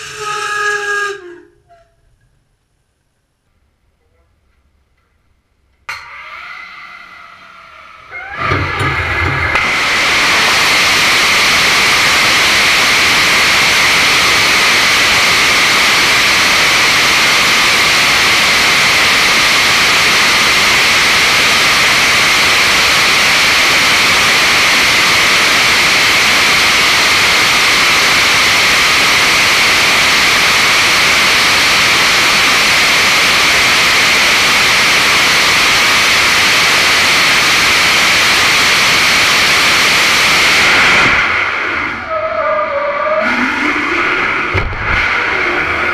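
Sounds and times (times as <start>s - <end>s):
rocket engine hissing rush: 6.9s - 45.9s.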